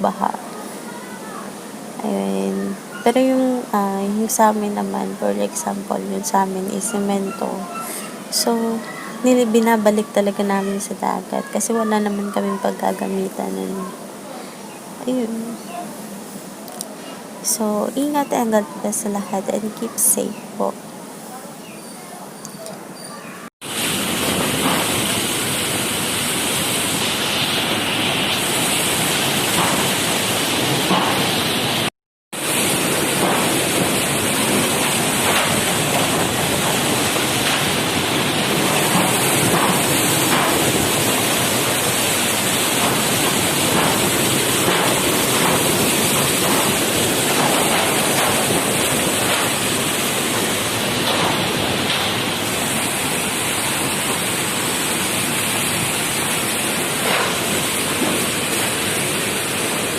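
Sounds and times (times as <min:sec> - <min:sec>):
rushing storm water: 0:00.0 - 0:21.6, 0:23.6 - 0:59.9
wind: 0:00.0 - 0:59.9.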